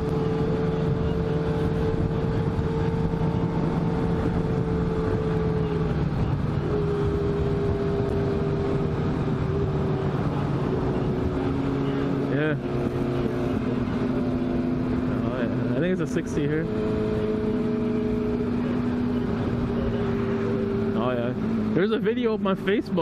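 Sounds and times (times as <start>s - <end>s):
motorcycle engine cruising: 0.0s - 23.0s
rush of wind: 0.0s - 23.0s.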